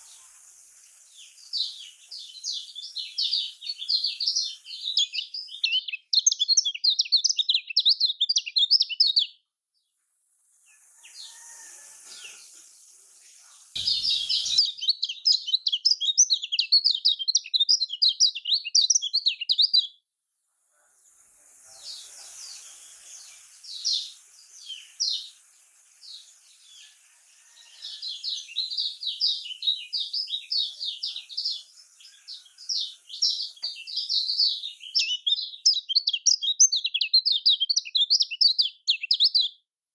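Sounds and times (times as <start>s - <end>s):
bird chattering song: 0.0s - 9.4s, 12.1s - 19.9s, 21.6s - 39.6s.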